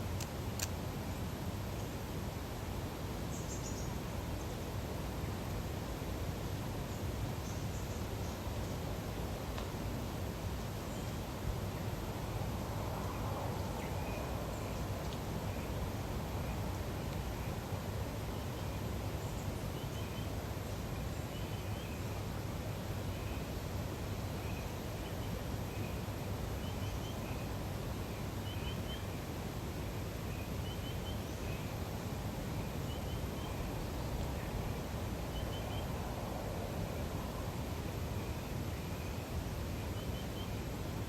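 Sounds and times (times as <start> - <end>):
low outdoor ambience: 0.0 - 41.0.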